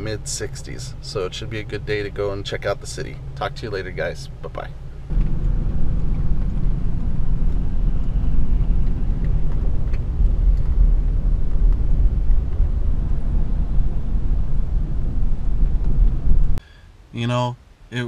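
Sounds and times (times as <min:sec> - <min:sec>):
van driving on road: 0:00.0 - 0:16.6.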